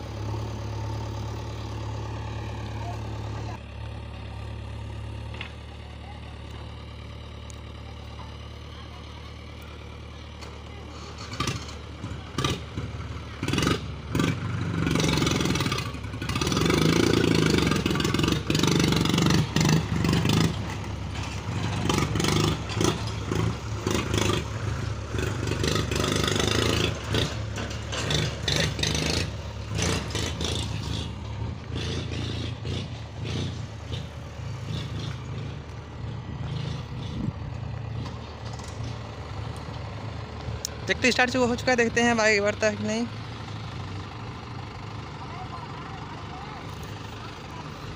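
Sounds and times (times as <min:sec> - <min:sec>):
tractor diesel engine revving: 0:00.0 - 0:47.9.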